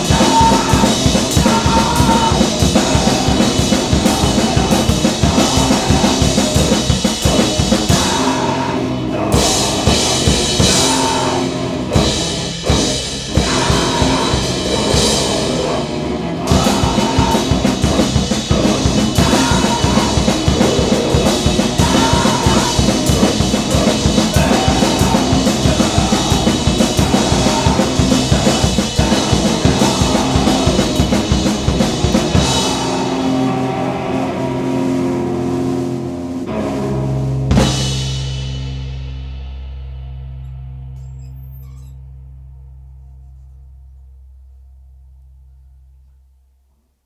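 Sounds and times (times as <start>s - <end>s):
blast-beat drumming and cymbals: 0.0s - 41.3s.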